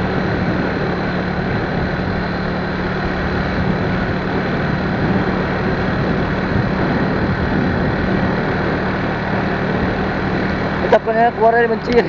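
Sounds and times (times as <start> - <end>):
broad rushing noise: 0.0 - 12.0
vehicle engine running: 0.0 - 12.0.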